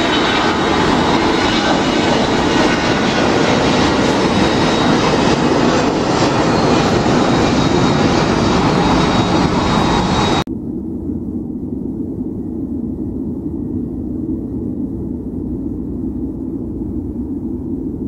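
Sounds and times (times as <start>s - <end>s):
jet engines at takeoff power: 0.0s - 18.0s
low rumble: 0.0s - 18.0s.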